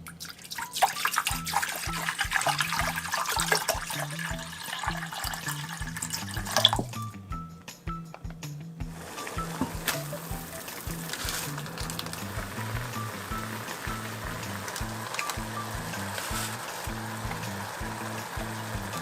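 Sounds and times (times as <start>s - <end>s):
background music with steady beat: 0.0s - 19.0s.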